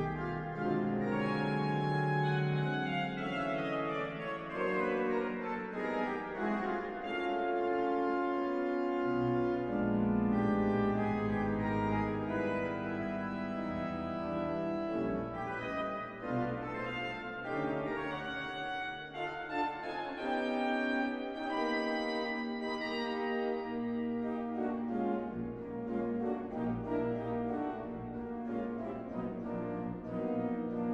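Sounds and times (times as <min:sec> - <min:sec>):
organ playing slow chords: 0:00.0 - 0:30.9.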